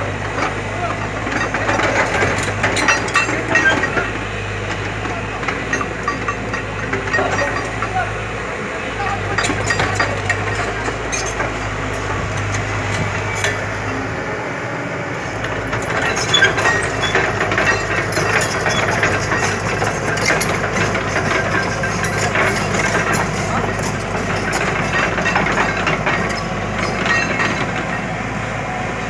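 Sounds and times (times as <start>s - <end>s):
excavator diesel engine humming: 0.0s - 29.0s
clicks and clinks: 1.3s - 4.8s, 5.4s - 8.0s, 9.1s - 14.0s, 15.4s - 28.1s.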